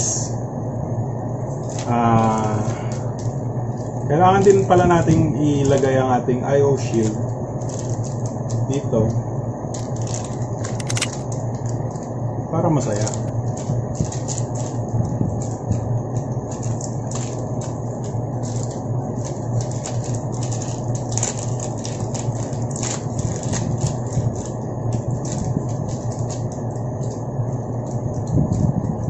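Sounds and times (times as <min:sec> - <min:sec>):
steady low hum: 0:00.0 - 0:29.0
sharp clicks and crackles: 0:01.5 - 0:06.0, 0:06.8 - 0:12.2, 0:12.8 - 0:29.0.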